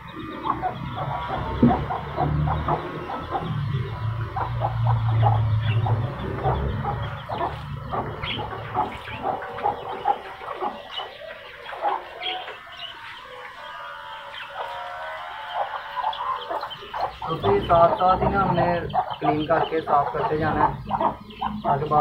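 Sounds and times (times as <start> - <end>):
birds clucking and chirping: 0.0 - 22.0.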